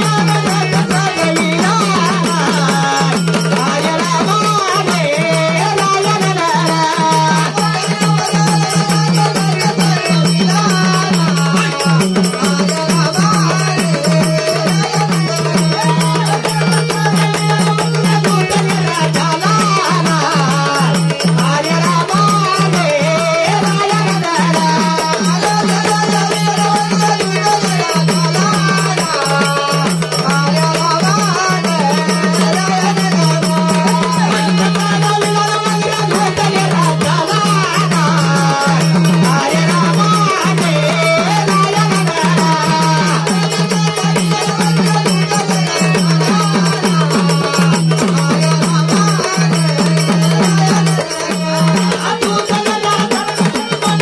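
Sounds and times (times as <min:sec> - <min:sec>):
fast drumming: 0:00.0 - 0:54.0.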